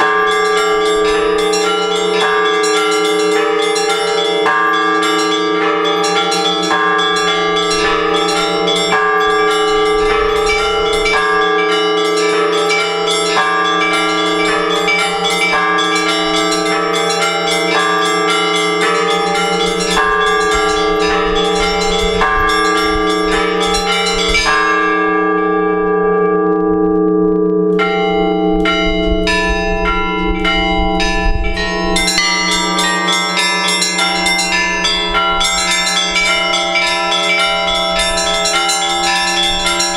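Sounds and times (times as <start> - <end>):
small bells striking: 0.0 - 26.2, 27.7 - 39.9
large bell deep hum: 0.0 - 39.9.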